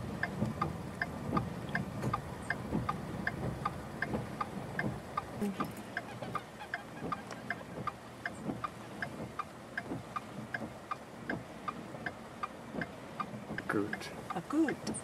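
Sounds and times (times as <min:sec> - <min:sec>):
clock ticking: 0:00.2 - 0:15.0.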